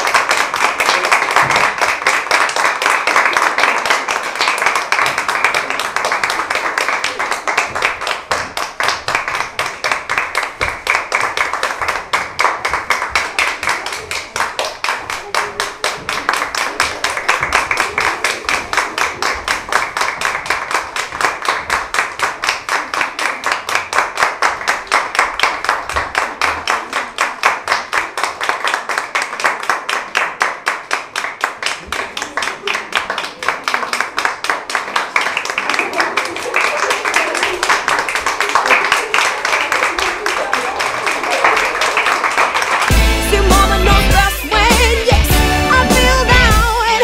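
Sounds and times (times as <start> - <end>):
audience applauding: 0.0 - 47.0.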